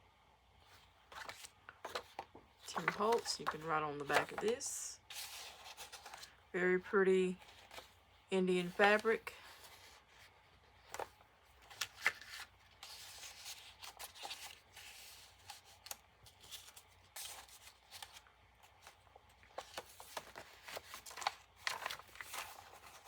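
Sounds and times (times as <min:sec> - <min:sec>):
pages rustling and crinkling: 0:00.6 - 0:06.4, 0:07.4 - 0:08.0, 0:08.7 - 0:23.0.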